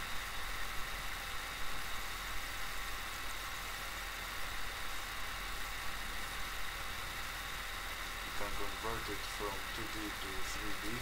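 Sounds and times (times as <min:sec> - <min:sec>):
background hum and hiss: 0:00.0 - 0:11.0
faint low hum: 0:00.0 - 0:11.0.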